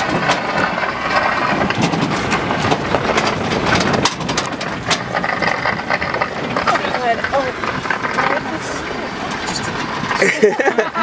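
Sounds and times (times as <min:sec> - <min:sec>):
vehicle body knocking and rattling: 0:00.0 - 0:11.0
vehicle engine running: 0:00.0 - 0:11.0.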